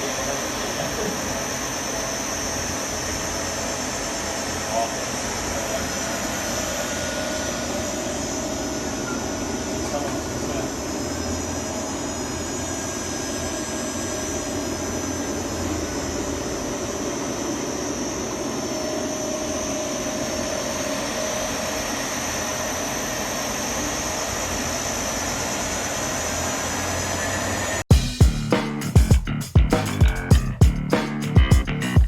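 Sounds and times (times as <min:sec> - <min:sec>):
high-pitched whine: 0:00.0 - 0:32.0
variable frequency drive whirring: 0:00.0 - 0:32.0.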